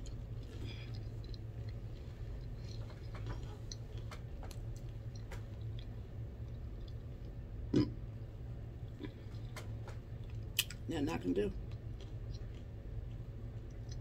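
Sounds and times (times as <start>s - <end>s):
person chewing food: 0.0s - 8.0s, 8.8s - 10.8s, 11.6s - 14.0s
low room hum: 0.0s - 14.0s.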